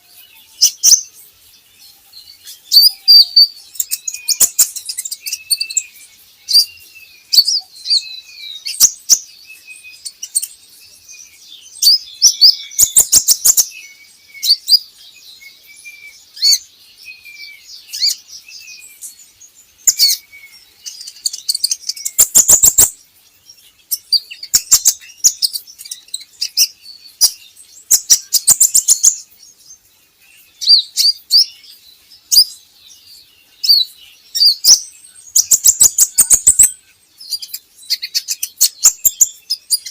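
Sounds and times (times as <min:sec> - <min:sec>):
bird twittering warble: 0:00.0 - 0:39.9
sharp ticking bird chips: 0:00.0 - 0:39.9.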